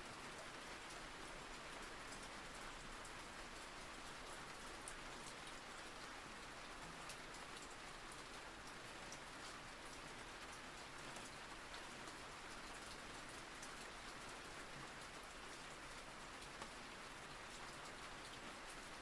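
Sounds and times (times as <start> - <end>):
soft rain hiss: 0.0 - 19.0.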